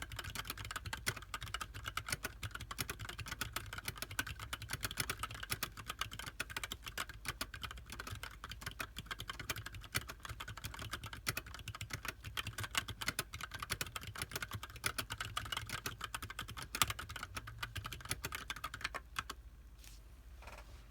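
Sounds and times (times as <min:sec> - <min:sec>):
mechanical keyboard typing: 0:00.0 - 0:19.4.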